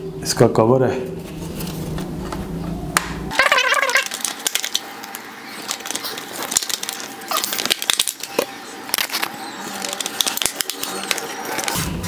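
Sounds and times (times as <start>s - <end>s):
handling noise: 1.2s - 12.0s.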